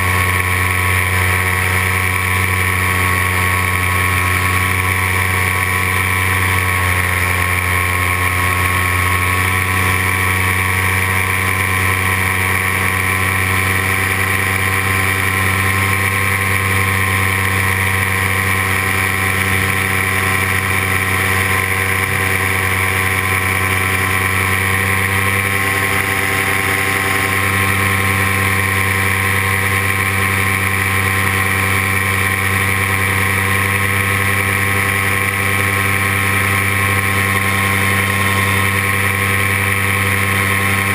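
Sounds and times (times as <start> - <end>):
paramotor engine droning: 0.0 - 40.9.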